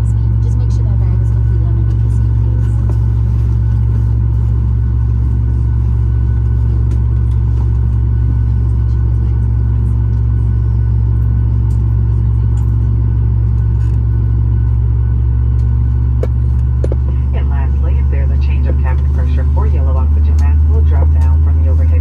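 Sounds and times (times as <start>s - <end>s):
aircraft cabin drone: 0.0s - 22.0s
faint steady whines: 0.0s - 22.0s.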